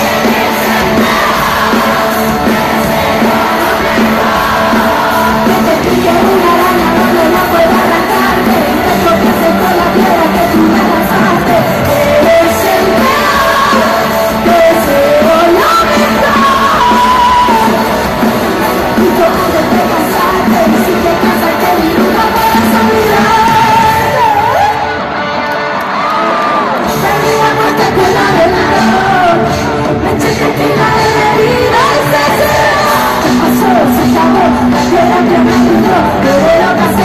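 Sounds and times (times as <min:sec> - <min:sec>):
crowd yelling along: 0:00.0 - 0:37.0
live pop band with singing: 0:00.0 - 0:37.0.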